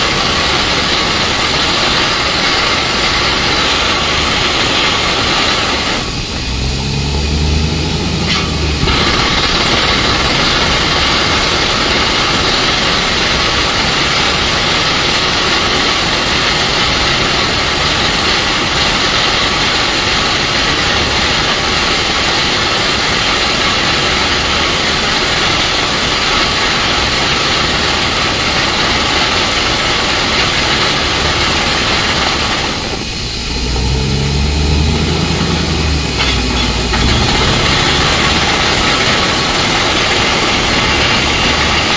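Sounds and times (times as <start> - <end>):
heavy diesel engine: 0.0 - 41.9
strong hiss: 0.0 - 41.9.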